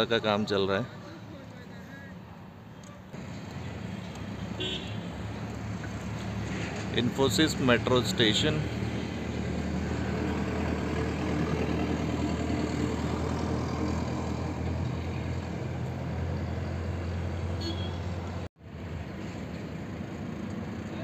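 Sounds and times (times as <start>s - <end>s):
road noise: 0.0s - 21.0s
vehicle engine rumble: 0.9s - 21.0s.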